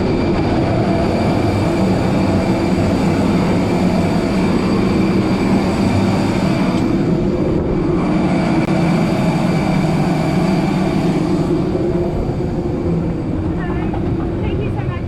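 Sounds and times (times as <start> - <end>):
jet engine hum with whining: 0.0 - 15.0.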